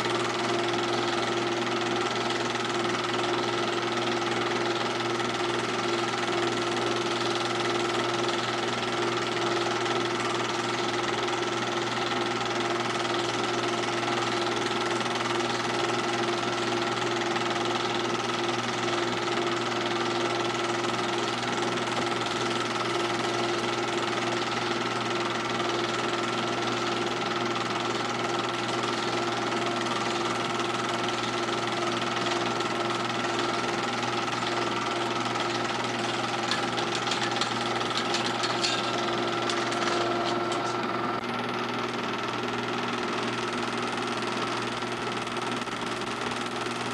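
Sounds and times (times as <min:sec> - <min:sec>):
film projector whirring: 0:00.0 - 0:46.9.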